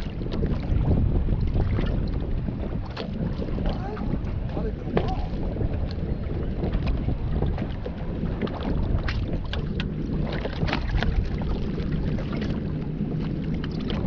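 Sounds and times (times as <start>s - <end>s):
outboard motor rumble: 0.0s - 14.0s
water splashing against hull: 0.0s - 14.0s
wind buffeting microphone: 0.0s - 14.0s.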